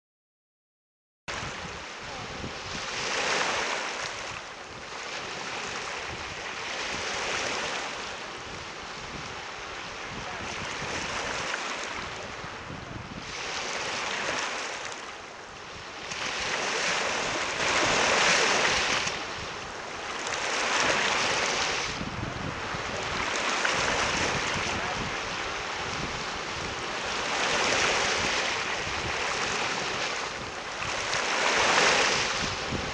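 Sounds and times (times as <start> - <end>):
lake waves washing over pebbles: 1.3 - 32.9.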